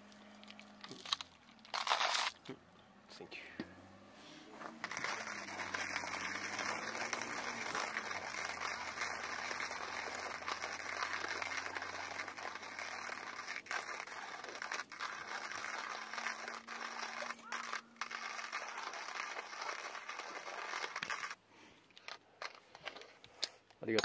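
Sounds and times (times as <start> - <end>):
hand grinder grinding coffee beans: 0.0 - 2.6, 4.6 - 23.2.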